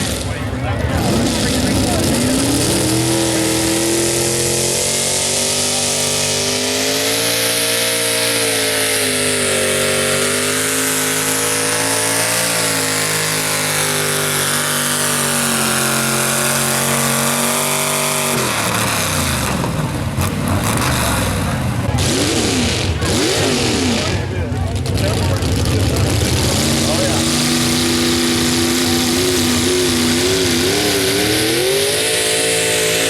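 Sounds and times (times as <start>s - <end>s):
truck engine at high revs: 0.0s - 33.0s.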